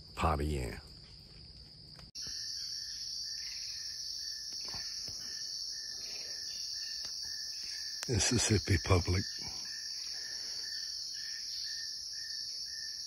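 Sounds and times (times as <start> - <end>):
crickets droning: 0.0 - 13.0
low pulsing insect call: 0.0 - 13.0.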